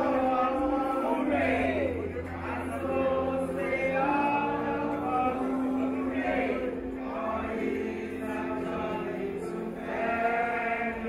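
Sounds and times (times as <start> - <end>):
group of voices singing along: 0.0 - 11.0.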